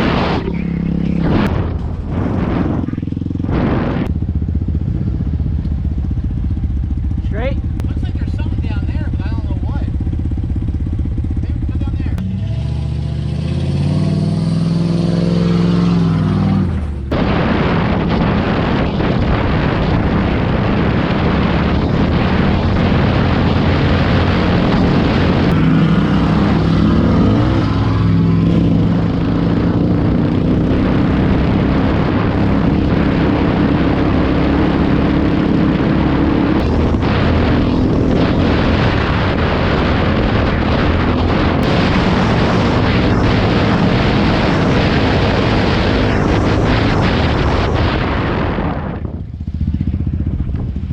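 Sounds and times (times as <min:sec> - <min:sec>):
pickup truck engine running hard: 0:00.0 - 0:50.9.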